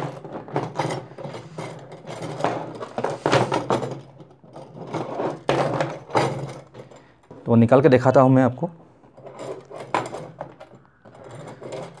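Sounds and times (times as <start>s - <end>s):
metal springs rattling on table: 0.0s - 7.6s, 9.0s - 12.0s.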